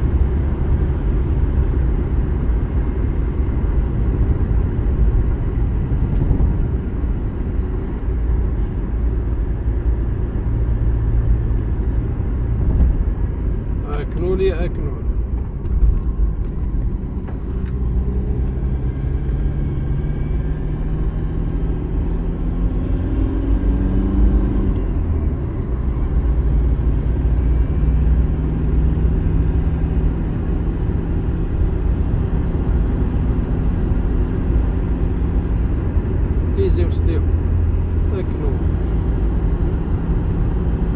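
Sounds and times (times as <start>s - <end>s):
car engine: 0.0s - 40.9s
road rumble inside car: 0.0s - 40.9s.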